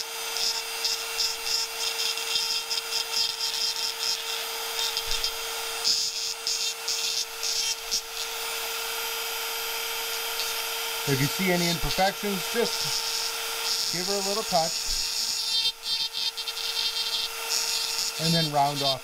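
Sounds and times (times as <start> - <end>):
rotary tool grinding metal: 0.0 - 19.0.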